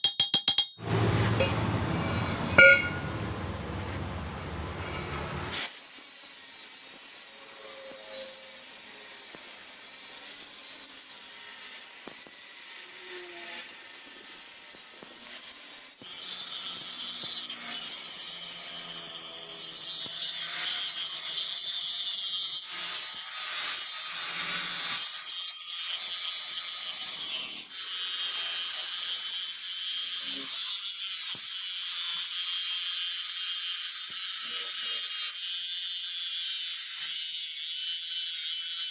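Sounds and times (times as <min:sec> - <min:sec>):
welding arc crackling: 0:05.5 - 0:38.9.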